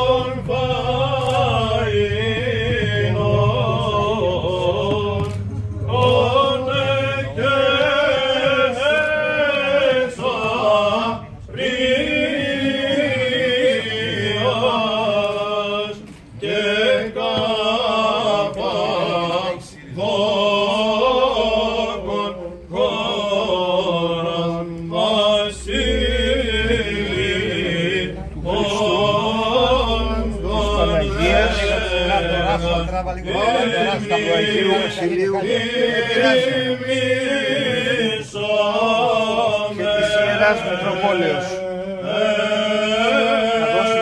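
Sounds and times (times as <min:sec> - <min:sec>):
men singing chant: 0:00.0 - 0:44.0.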